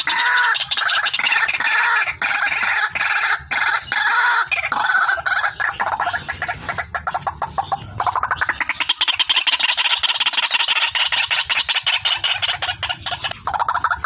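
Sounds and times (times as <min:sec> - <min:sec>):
waterhen harsh repeated calls: 0:00.0 - 0:14.0.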